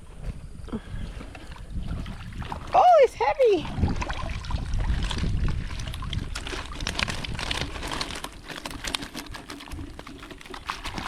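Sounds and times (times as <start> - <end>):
wind rumble on microphone: 0.0 - 11.0
water splashing and trickling: 0.8 - 11.0.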